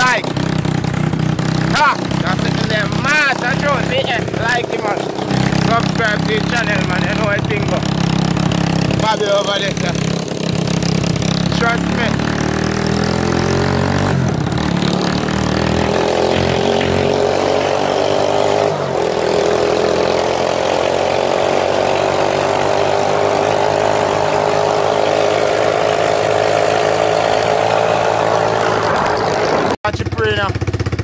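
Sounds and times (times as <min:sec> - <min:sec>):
go-kart engine running: 0:00.0 - 0:31.0.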